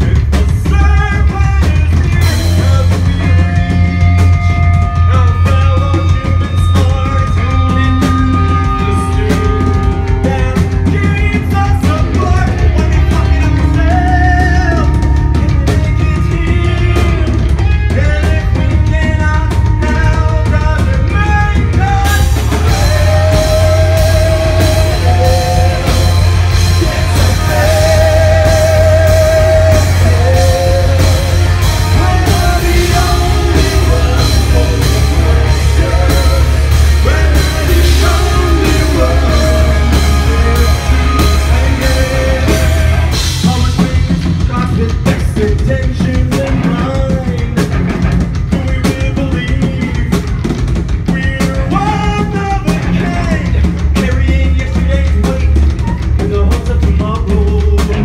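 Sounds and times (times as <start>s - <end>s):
drums: 0.0s - 58.0s
lead vocal singing: 0.0s - 58.0s
rock band playing: 0.0s - 58.0s.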